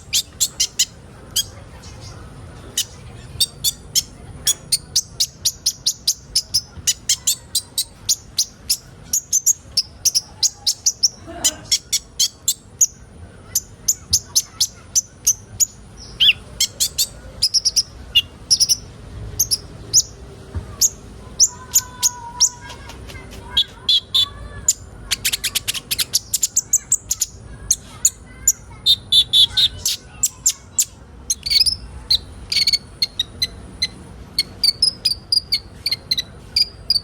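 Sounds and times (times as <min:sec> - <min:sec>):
bird trills: 0:00.0 - 0:20.2, 0:20.8 - 0:37.0
birds chipping: 0:00.0 - 0:37.0.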